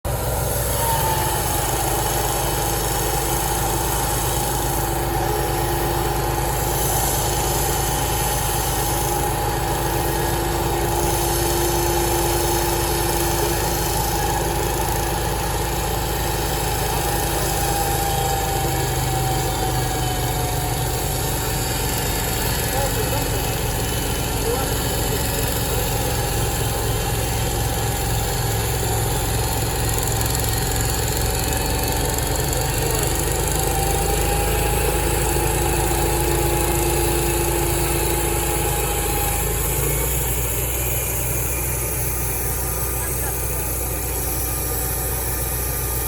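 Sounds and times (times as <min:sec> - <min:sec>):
continuous whine: 0:00.0 - 0:46.0
sawmill engine running: 0:00.0 - 0:46.0.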